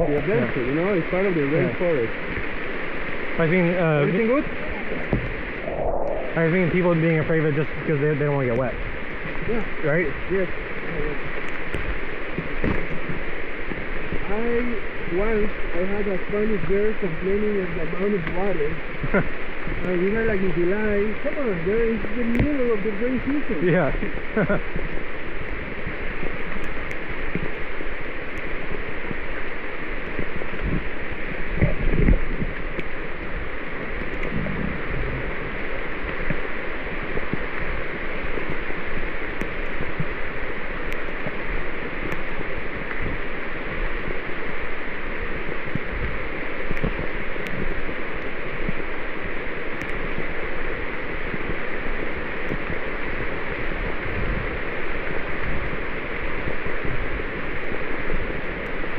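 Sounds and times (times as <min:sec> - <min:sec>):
heavy rain on foliage: 0:00.0 - 0:58.9.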